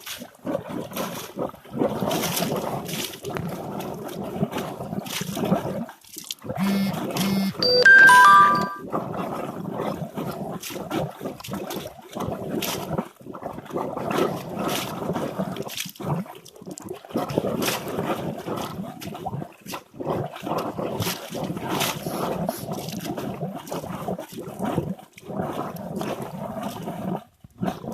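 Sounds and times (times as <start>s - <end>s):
water splashing and gurgling: 0.0s - 7.2s, 8.9s - 27.9s.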